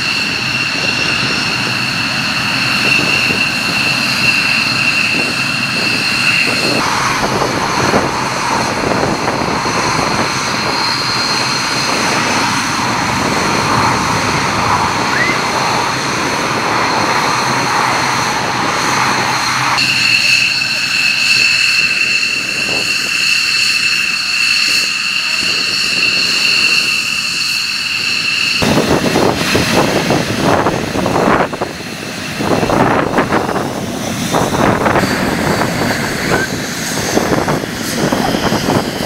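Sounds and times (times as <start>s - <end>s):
jet engine whine: 0.0s - 39.0s
rushing jet noise: 0.0s - 39.0s.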